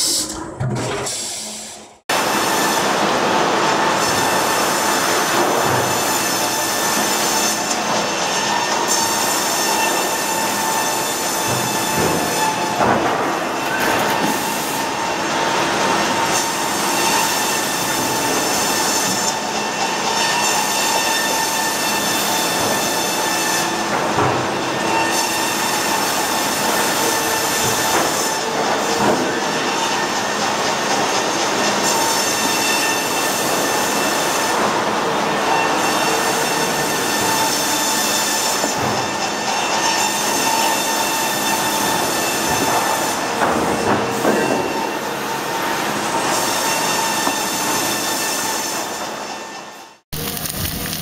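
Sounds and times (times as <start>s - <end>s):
band saw metallic whine: 0.0s - 50.3s
rattling carriage machinery: 2.9s - 51.0s.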